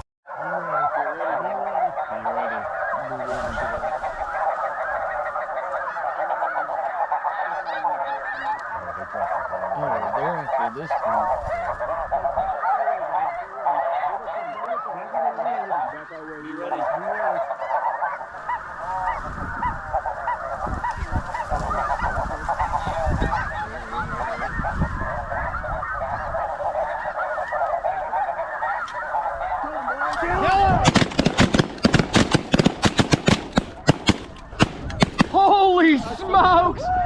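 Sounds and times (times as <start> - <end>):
geese honking: 0.3 - 37.0.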